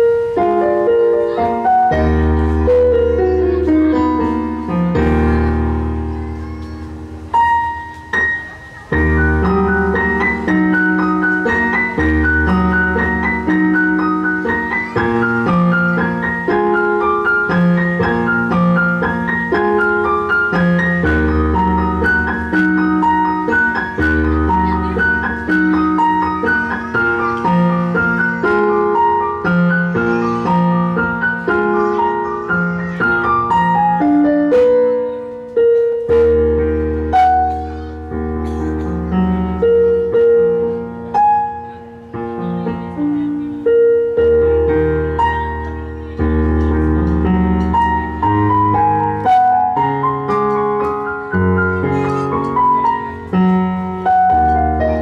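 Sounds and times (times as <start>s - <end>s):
electronic keyboard melody: 0.0s - 55.0s.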